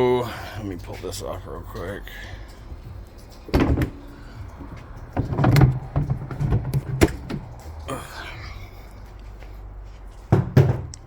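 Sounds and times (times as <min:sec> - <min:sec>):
low steady hum: 0:00.0 - 0:11.0
engine cover clunking and rattling: 0:00.7 - 0:07.9, 0:09.0 - 0:11.0.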